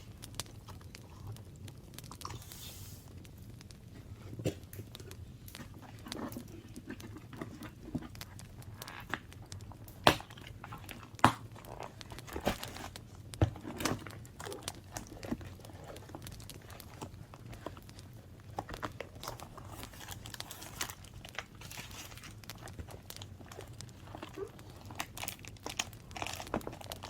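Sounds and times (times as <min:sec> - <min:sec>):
paper crinkling and rustling: 0:03.8 - 0:27.0.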